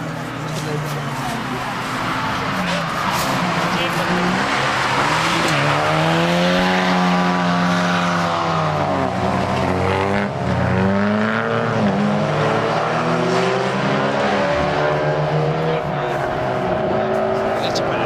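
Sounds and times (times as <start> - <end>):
race car engine accelerating: 0.7 - 18.0.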